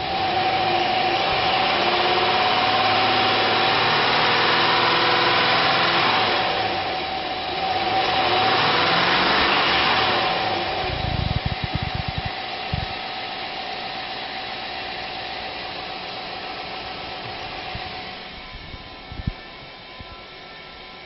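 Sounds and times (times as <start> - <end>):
steady whine: 0.0 - 21.0
truck engine running: 0.0 - 21.0.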